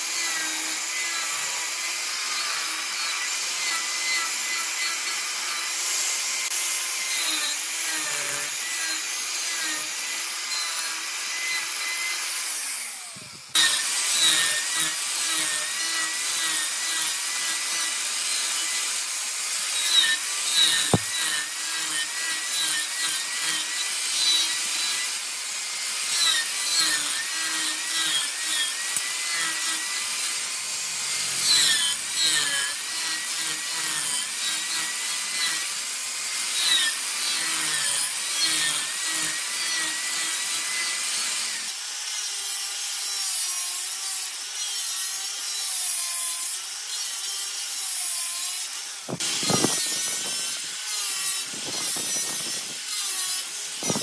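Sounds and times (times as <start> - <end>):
grinder sanding pad: 0.0 - 41.4, 45.0 - 54.0
angle grinder grinding wood: 0.0 - 54.0.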